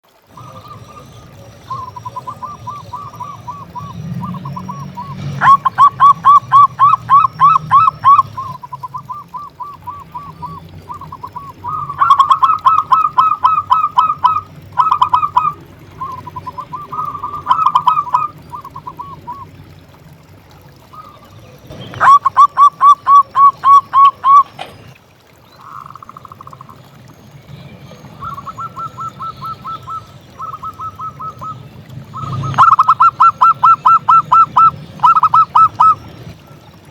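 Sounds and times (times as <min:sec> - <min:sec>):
doves cooing: 0:00.1 - 0:27.0, 0:27.6 - 0:36.9.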